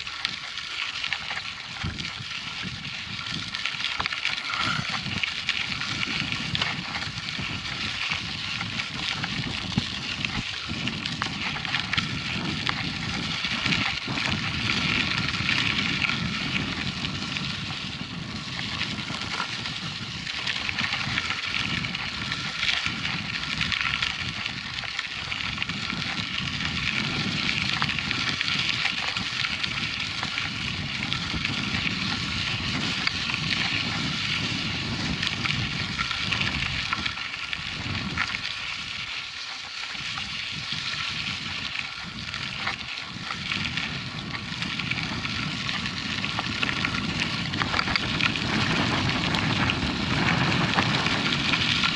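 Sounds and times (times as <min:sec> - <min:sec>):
bike tyres crackling on gravel: 0:00.0 - 0:51.9.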